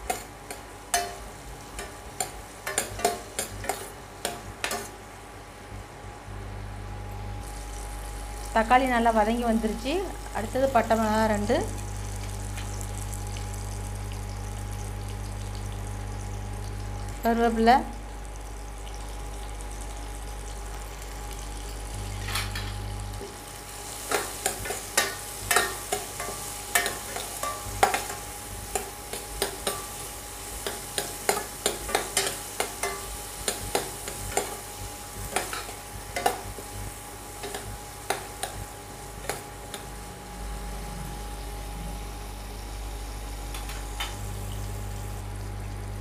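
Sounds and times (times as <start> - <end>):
induction cooktop hum: 0.0 - 46.0
light sizzle: 0.0 - 46.0.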